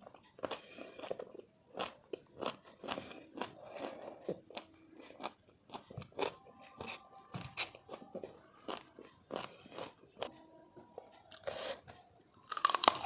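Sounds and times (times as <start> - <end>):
crunching and chewing fruit: 0.0 - 13.0.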